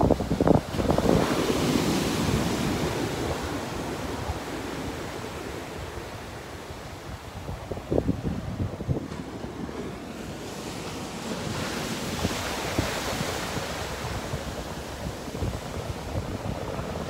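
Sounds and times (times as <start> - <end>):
small waves washing on sand: 0.0 - 17.0
wind buffeting microphone: 0.0 - 17.0.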